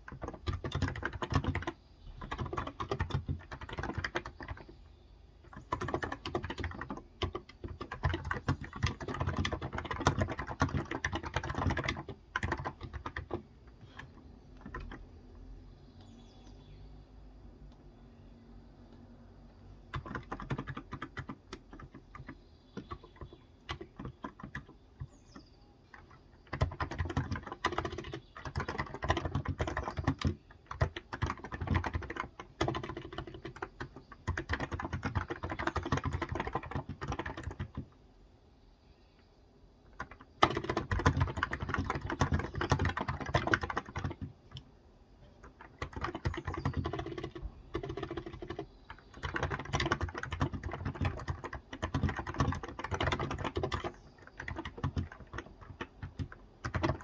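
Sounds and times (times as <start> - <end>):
keyboard typing: 0.0 - 15.2, 19.6 - 38.0, 39.9 - 57.0.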